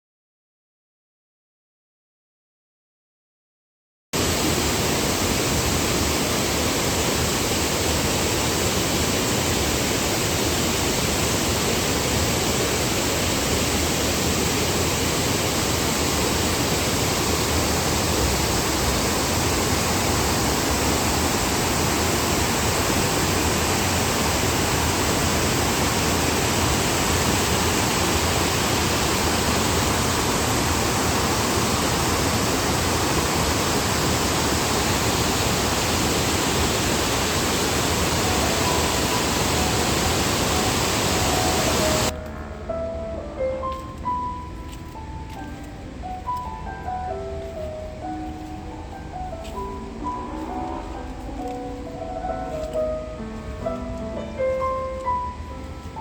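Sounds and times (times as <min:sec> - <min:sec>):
river water rushing: 0:04.2 - 0:42.2, 0:45.5 - 0:56.0.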